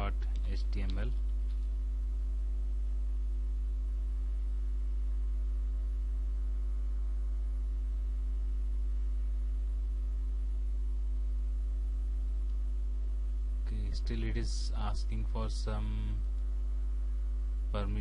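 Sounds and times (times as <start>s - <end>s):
faint steady tones: 0.0s - 18.0s
low electrical hum: 0.0s - 18.0s.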